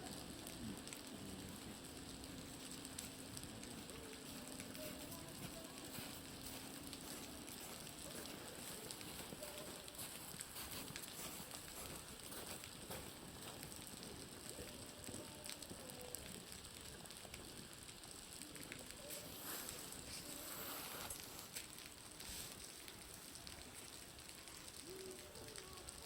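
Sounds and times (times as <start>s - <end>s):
bonfire crackling: 0.0s - 26.0s
meltwater dripping off roof: 0.0s - 26.0s.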